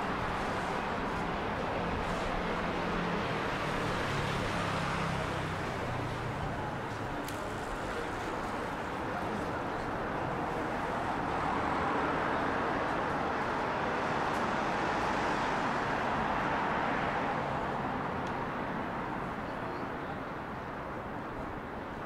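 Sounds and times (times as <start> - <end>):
road traffic hiss: 0.0 - 22.0.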